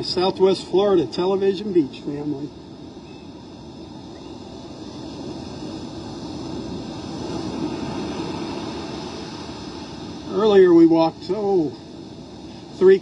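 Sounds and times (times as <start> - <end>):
gusty wind: 0.0 - 13.0
muffled surf: 0.0 - 13.0.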